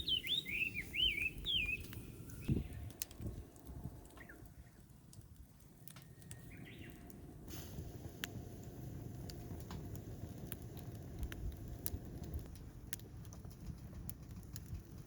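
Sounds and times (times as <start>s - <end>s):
low steady fire rumble: 0.0s - 15.0s
wood fire crackling: 0.0s - 15.0s.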